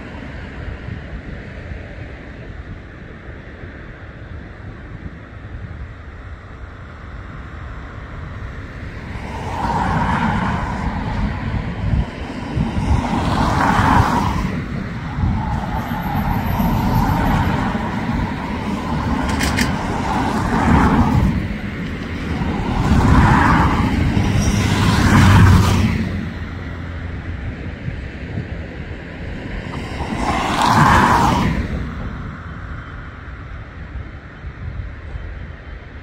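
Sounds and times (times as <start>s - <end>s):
low vehicle rumble: 0.0s - 36.0s
vehicles passing by: 0.0s - 36.0s.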